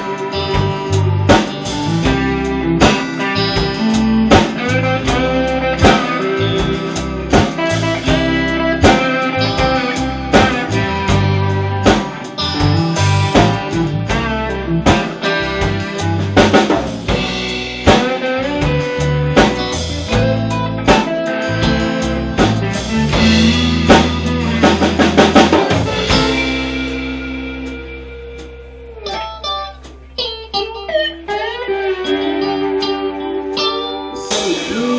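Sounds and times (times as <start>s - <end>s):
rock band playing instrumental: 0.0s - 34.9s.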